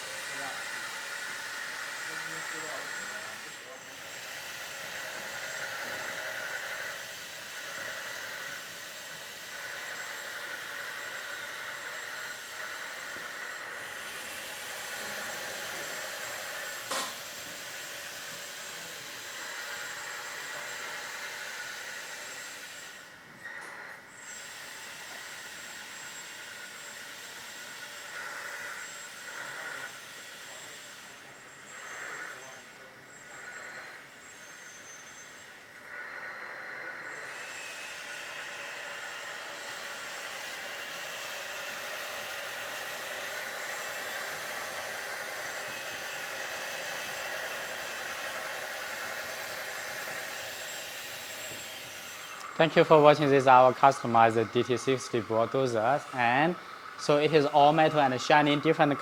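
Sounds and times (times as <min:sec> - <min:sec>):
hydraulic pump and motors whining: 0:00.0 - 0:59.0.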